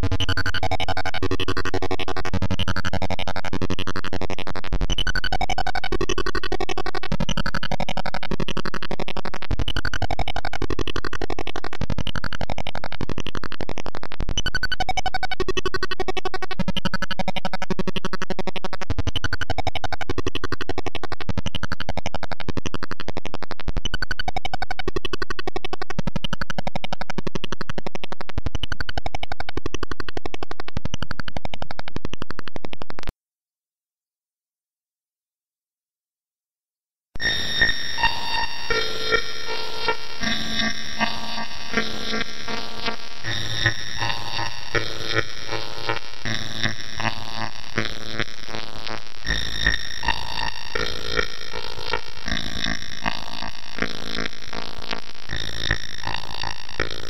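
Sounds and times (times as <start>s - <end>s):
harsh buzzy synthetic tones: 0.0s - 33.1s, 37.2s - 57.0s.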